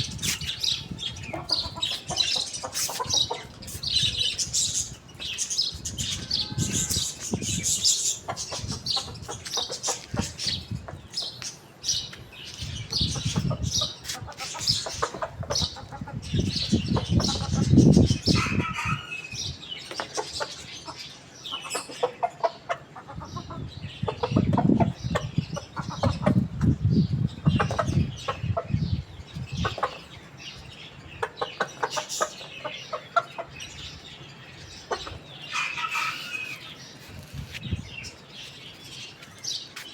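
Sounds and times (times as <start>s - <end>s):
chickens clucking: 0.0s - 19.2s, 19.9s - 39.3s.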